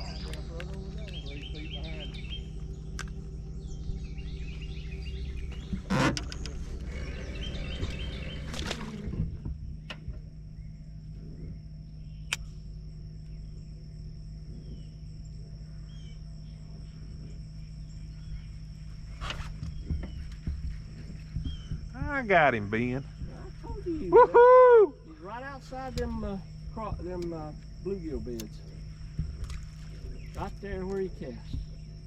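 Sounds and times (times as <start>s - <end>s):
birds chirping: 0.0s - 32.0s
low steady hum: 0.0s - 32.0s.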